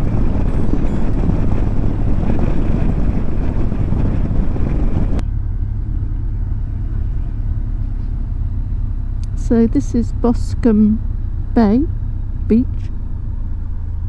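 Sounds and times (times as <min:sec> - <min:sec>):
wind rushing over microphone: 0:00.0 - 0:13.5
motorcycle engine hum: 0:00.0 - 0:14.0.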